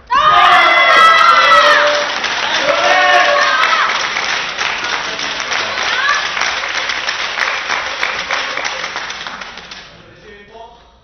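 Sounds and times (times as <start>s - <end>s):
crowd applauding and cheering: 0.2s - 9.9s.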